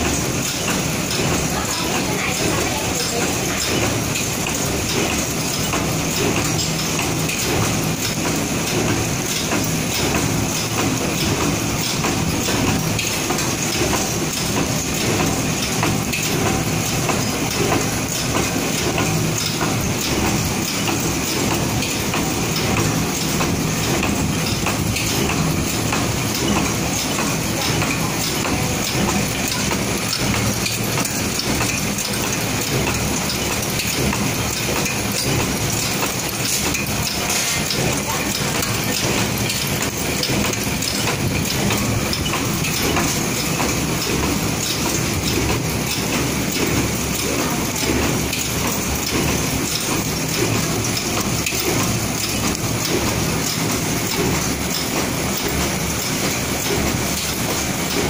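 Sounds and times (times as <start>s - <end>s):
machine clattering: 0.0s - 58.0s.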